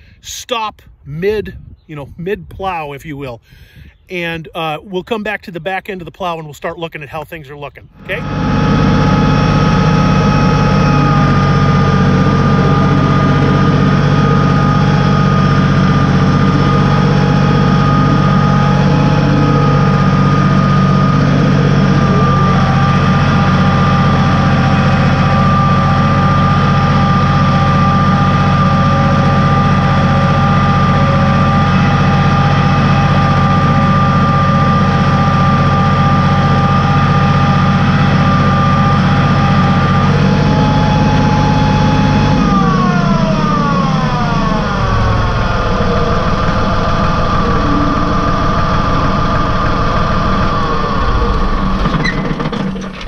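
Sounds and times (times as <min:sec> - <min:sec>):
constant high whine: 0:00.0 - 0:53.0
tractor engine under load: 0:08.0 - 0:53.0.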